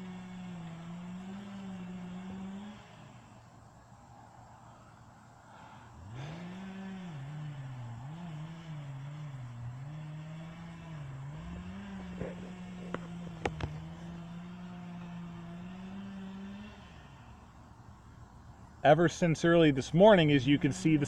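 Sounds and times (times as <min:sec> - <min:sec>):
chainsaw revving and cutting: 0:00.0 - 0:03.5, 0:05.6 - 0:18.6, 0:20.0 - 0:21.0.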